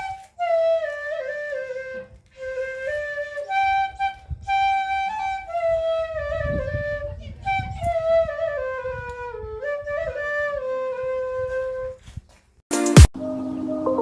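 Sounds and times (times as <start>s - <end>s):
flute playing slow melody: 0.0s - 12.0s.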